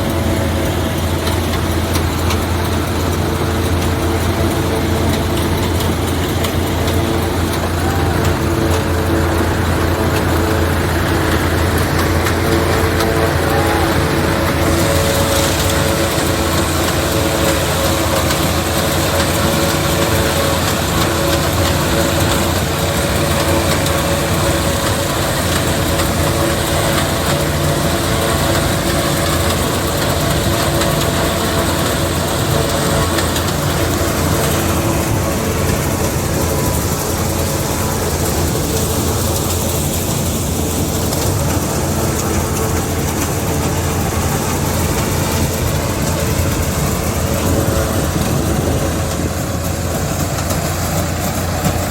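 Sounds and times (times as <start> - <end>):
diesel engine drone: 0.0 - 51.9.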